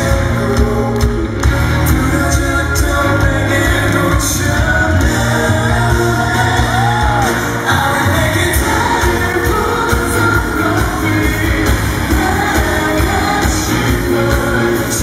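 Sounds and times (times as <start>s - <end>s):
man singing live: 0.0s - 15.0s
pop-rock band playing: 0.0s - 15.0s.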